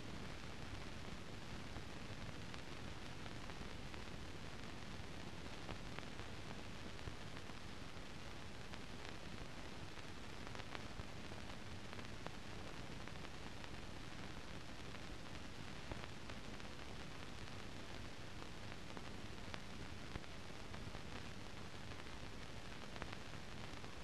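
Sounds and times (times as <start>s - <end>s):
soundtrack hiss: 0.0s - 24.0s.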